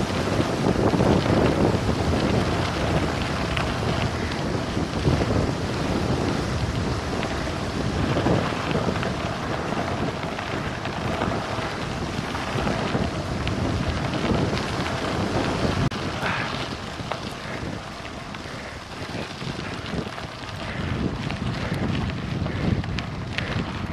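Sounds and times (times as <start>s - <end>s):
tyres on loose gravel: 0.0s - 23.9s
wind buffeting microphone: 0.0s - 23.9s.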